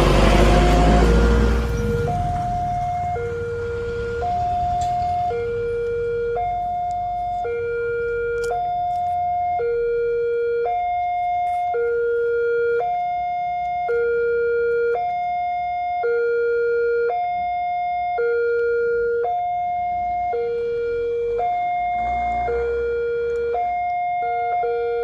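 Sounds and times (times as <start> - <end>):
two-tone level crossing alarm: 0.0 - 25.0.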